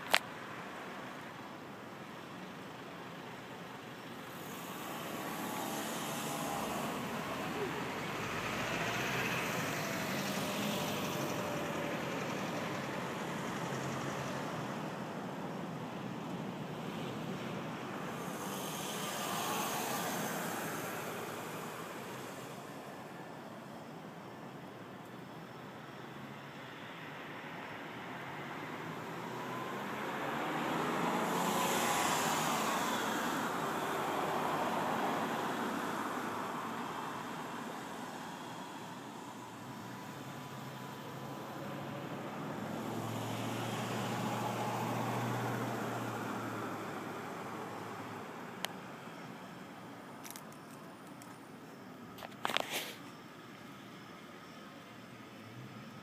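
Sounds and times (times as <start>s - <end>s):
road traffic rushing: 0.0s - 56.0s.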